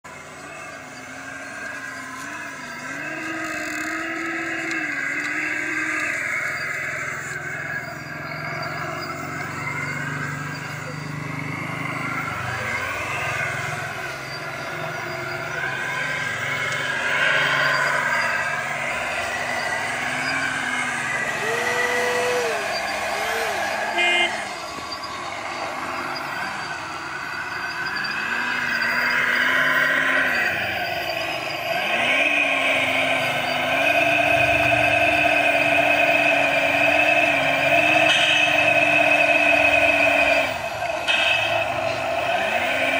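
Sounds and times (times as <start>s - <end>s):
toy machines motor whine: 0.0s - 42.9s
wavering tone: 0.1s - 42.9s.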